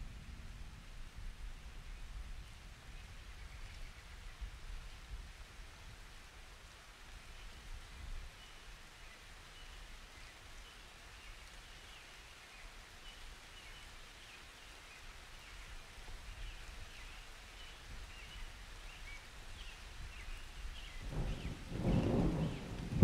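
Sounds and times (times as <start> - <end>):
light rain falling: 0.0 - 23.0.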